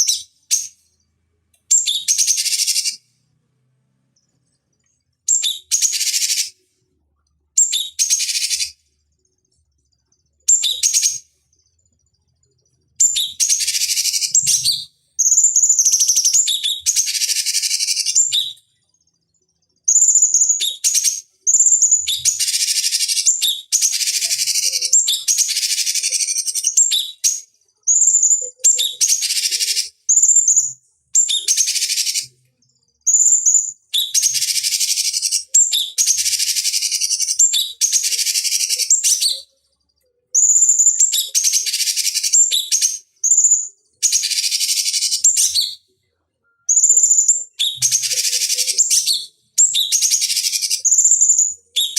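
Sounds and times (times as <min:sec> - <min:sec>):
bird singing with scratchy chatter: 0:00.0 - 0:03.1, 0:04.0 - 0:06.9, 0:07.5 - 0:51.9.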